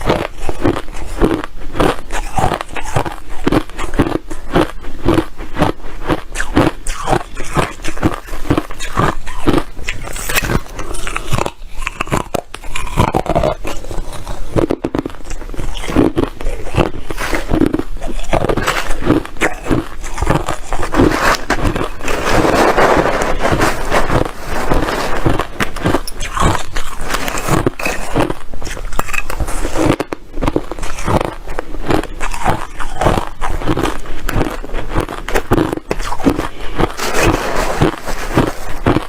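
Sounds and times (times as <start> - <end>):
person chewing ice crunching: 0.0 - 39.0.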